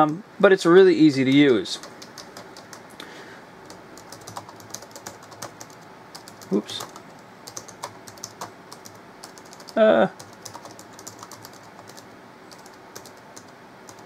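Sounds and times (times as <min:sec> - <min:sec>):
keyboard keys clicking: 0:01.3 - 0:02.8, 0:03.7 - 0:14.0.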